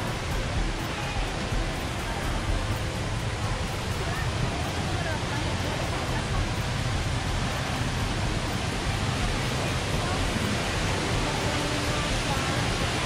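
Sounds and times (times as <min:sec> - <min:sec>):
crowd voices: 0:00.0 - 0:13.0
indoor waterfall rushing: 0:00.0 - 0:13.0.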